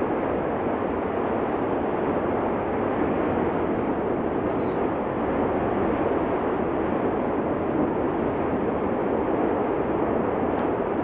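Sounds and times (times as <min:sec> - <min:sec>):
erupting volcano roar: 0:00.0 - 0:11.0.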